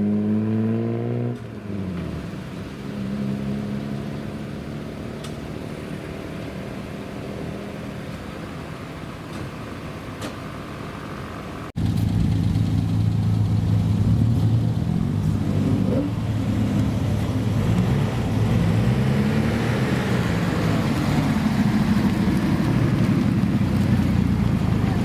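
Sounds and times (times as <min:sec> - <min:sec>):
car engine revving: 0:00.0 - 0:08.0, 0:11.7 - 0:25.0.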